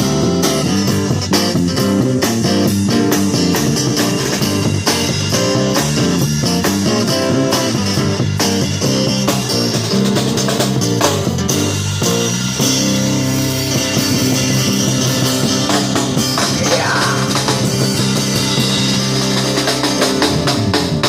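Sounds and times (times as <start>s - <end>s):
band playing rock music: 0.0s - 21.0s.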